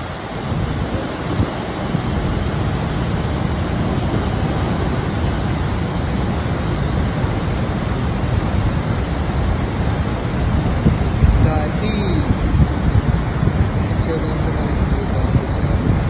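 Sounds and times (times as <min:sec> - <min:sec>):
waterfall rushing: 0:00.0 - 0:16.0
wind rumbling on microphone: 0:00.0 - 0:16.0.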